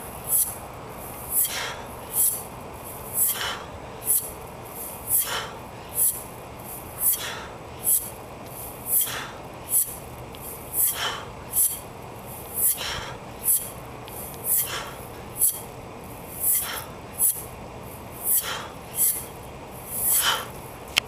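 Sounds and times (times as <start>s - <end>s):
mace whooshing through air: 0.0s - 20.7s.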